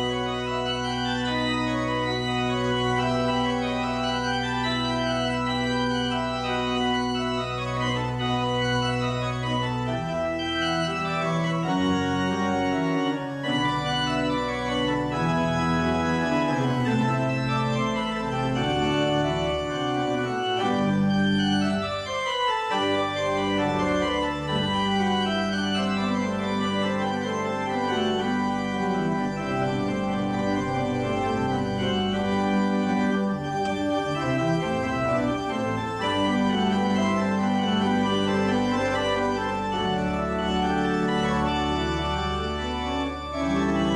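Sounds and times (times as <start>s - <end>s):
organ playing slow chords: 0.0s - 43.9s.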